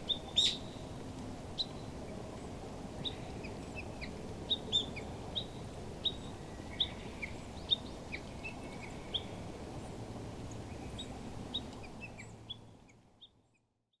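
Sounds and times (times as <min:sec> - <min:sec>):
small birds chirping: 0:00.0 - 0:00.9, 0:01.6 - 0:14.0
low background hiss: 0:00.0 - 0:14.0.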